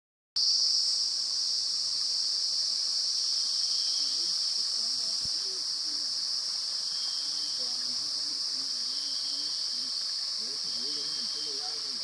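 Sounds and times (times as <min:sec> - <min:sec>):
insect chorus drone: 0:00.4 - 0:12.0
faint stream rushing: 0:01.0 - 0:12.0.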